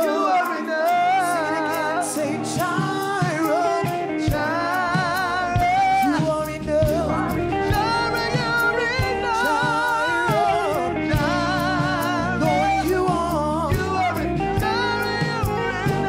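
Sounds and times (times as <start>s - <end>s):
choir singing worship music: 0.0s - 16.0s
electric guitar: 0.0s - 16.0s
drum beat: 0.9s - 16.0s.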